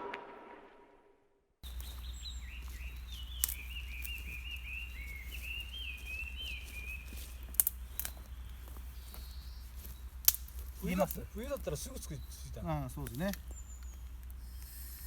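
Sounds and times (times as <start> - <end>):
low outdoor rumble: 1.6 - 15.0
songbird warbling: 1.6 - 15.0.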